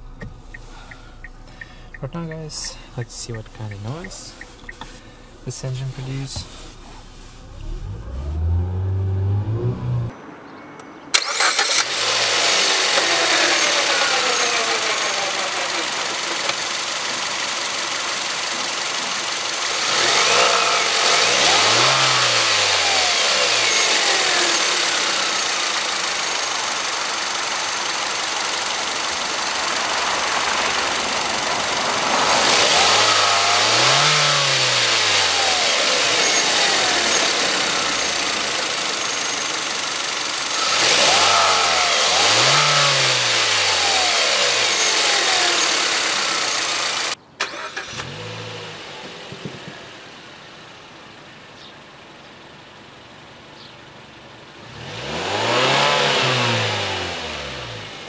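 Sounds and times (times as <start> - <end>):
car engine revving: 0.0 - 10.2, 11.1 - 51.3, 54.6 - 58.0.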